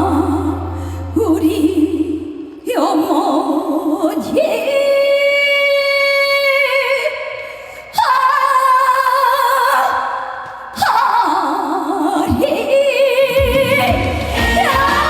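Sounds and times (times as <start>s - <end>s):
woman singing with vibrato: 0.0s - 15.0s.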